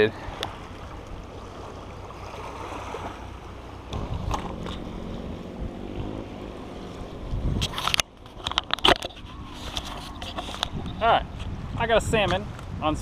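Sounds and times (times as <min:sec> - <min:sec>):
water along rocky shore: 0:00.0 - 0:13.0
wind on microphone: 0:00.0 - 0:13.0.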